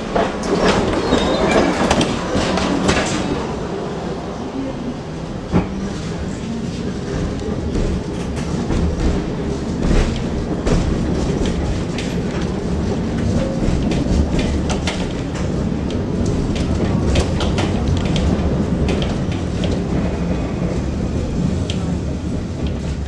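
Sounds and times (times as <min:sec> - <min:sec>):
tram wheels rumbling: 0:00.0 - 0:23.0.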